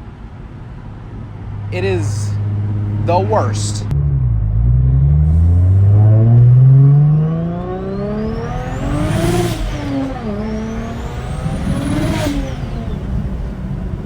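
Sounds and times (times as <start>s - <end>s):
car engine accelerating hard: 2.3s - 14.0s.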